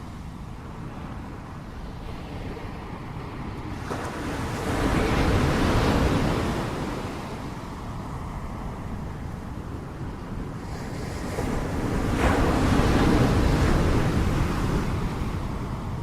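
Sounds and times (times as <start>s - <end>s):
ocean waves crashing: 0.0s - 16.0s.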